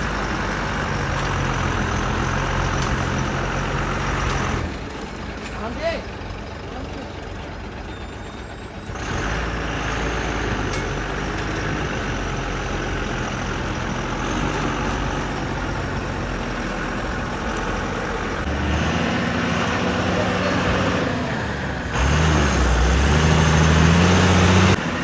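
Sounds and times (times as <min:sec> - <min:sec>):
truck diesel engine running: 0:00.0 - 0:25.0.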